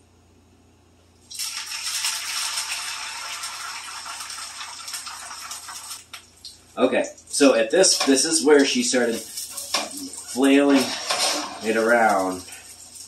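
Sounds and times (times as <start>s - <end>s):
egg sizzling in hot oil: 1.2s - 6.6s, 7.8s - 13.0s.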